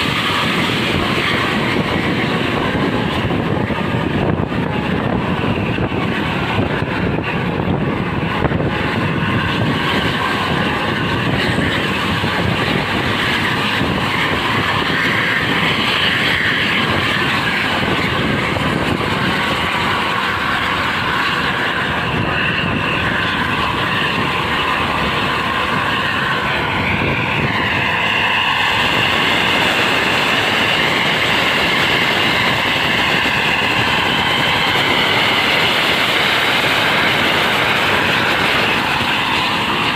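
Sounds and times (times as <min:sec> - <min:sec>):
vehicles driving on road: 0:00.0 - 0:39.9.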